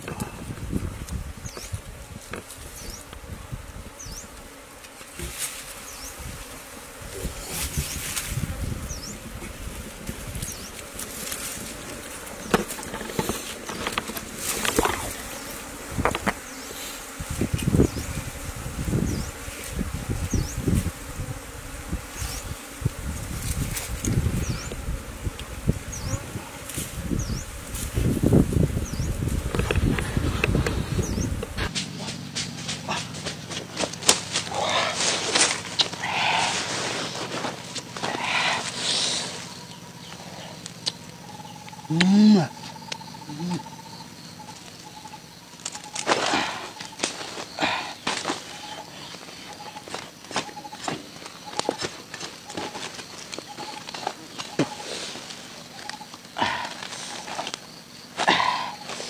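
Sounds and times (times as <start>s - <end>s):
rustling of leaves and grass: 0.0s - 42.9s, 44.1s - 59.0s
honeybees buzzing: 0.0s - 59.0s.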